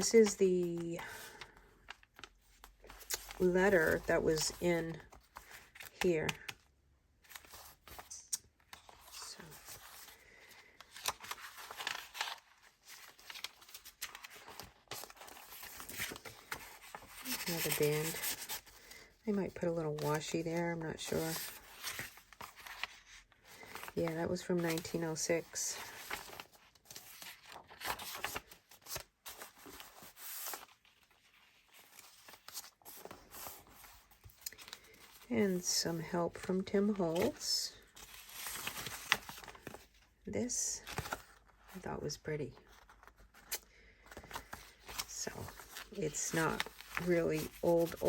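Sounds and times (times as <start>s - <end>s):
paper pages rustling: 0.0s - 40.1s, 40.8s - 41.8s, 42.6s - 48.0s.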